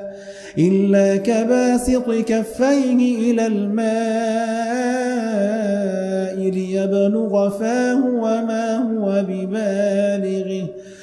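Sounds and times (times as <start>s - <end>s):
man chanting melodically: 0.0s - 10.8s.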